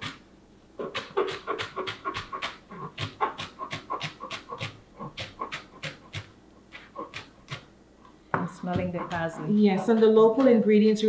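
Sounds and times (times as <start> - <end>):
knife chopping on cutting board: 0.8 - 7.7, 8.4 - 10.7.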